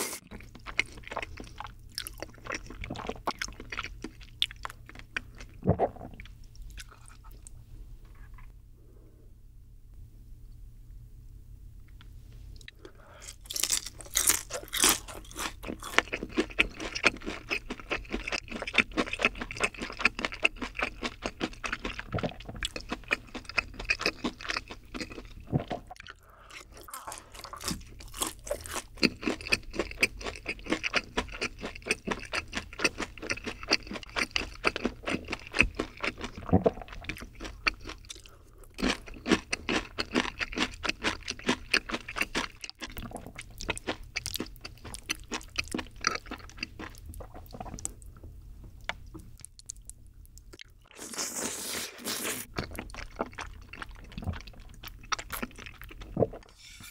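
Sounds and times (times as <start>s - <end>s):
crunching and chewing food: 0.0s - 8.6s, 12.6s - 56.6s.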